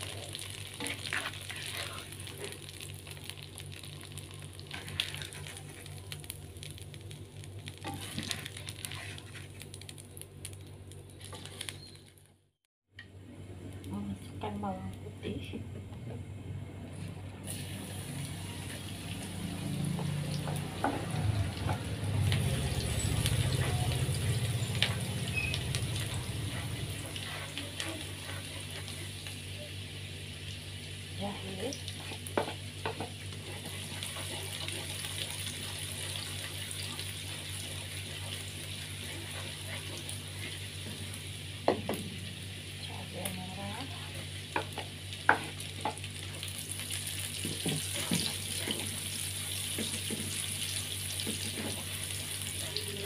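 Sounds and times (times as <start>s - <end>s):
garlic sizzling in oil: 0.0s - 12.2s, 17.4s - 53.0s.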